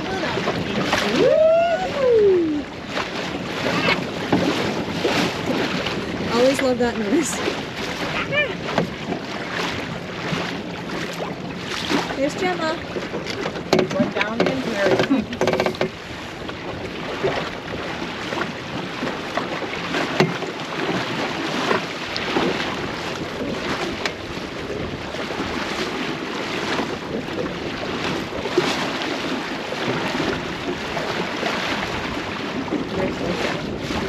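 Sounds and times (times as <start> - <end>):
small waves slapping: 0.0 - 34.0
water rushing along boat hull: 0.0 - 34.0
wind buffeting microphone: 0.0 - 34.0.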